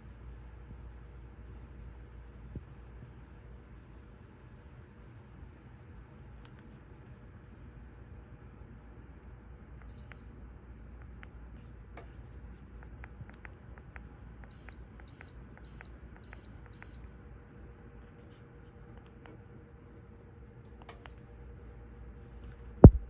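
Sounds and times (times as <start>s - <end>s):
heater low steady hum: 0.0s - 23.0s.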